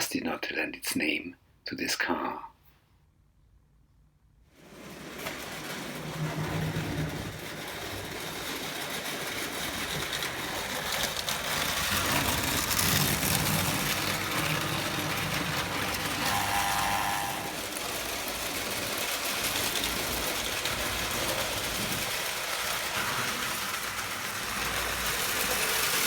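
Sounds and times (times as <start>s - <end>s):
toy train motor whirring: 4.6s - 26.0s
wheels clicking on rails: 4.6s - 26.0s.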